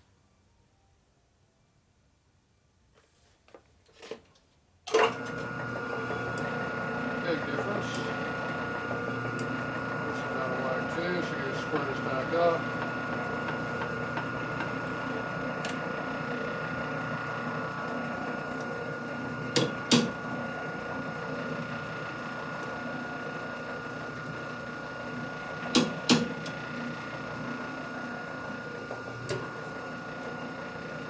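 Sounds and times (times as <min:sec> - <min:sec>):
steady shop hum: 0:04.9 - 0:31.0.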